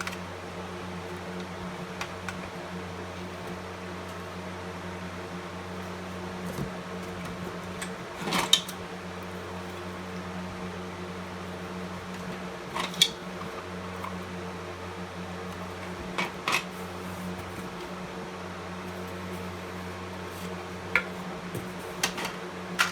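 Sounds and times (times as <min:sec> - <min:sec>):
steady room hum: 0:00.0 - 0:22.9.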